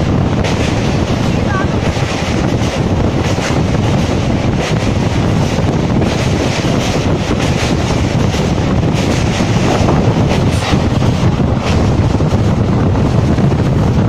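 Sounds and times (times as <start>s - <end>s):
low rumble: 0.0s - 14.0s
wind buffeting microphone: 0.0s - 14.0s.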